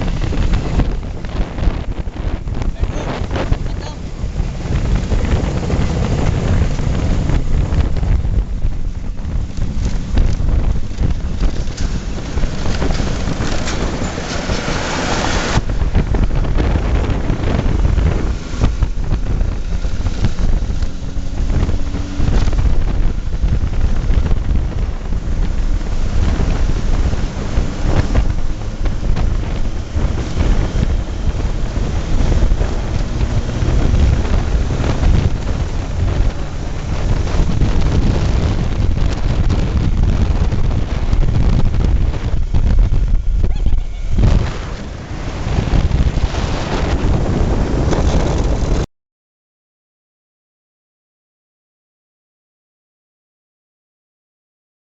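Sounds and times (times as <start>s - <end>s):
two-stroke motorcycle engine: 0.0s - 48.8s
wind buffeting microphone: 0.0s - 48.9s.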